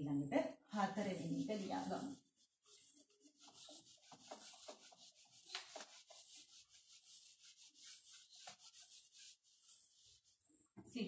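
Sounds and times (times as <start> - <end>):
duster wiping a whiteboard: 0.7 - 10.8.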